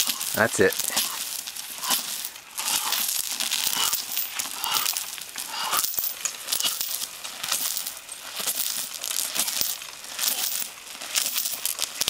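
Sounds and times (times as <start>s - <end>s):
rope scraping across gravelly ground: 0.0s - 12.0s.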